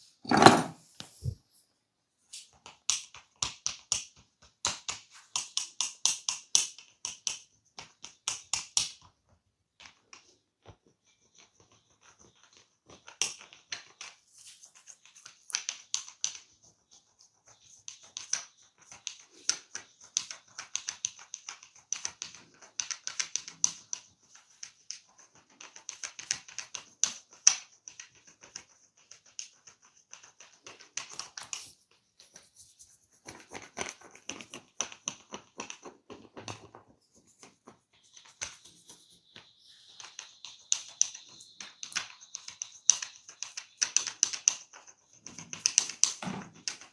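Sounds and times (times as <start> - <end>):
scratching against hair and skin: 2.3 - 46.9.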